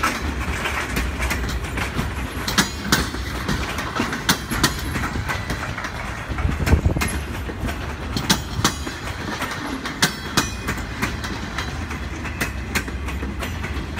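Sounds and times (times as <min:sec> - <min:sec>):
low rumble of rolling railcars: 0:00.0 - 0:13.9
train wheels clacking over rail joints: 0:00.0 - 0:13.9.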